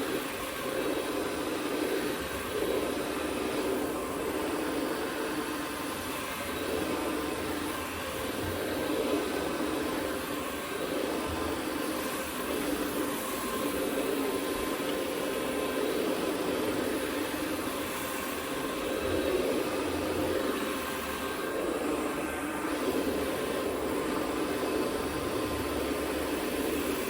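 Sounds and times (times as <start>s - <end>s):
carpet cleaning machine running: 0.0s - 27.0s.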